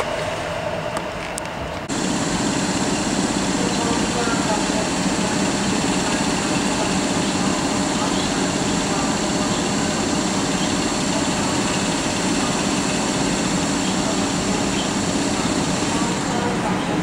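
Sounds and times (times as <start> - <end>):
electric locomotive steady hum: 0.0 - 17.0.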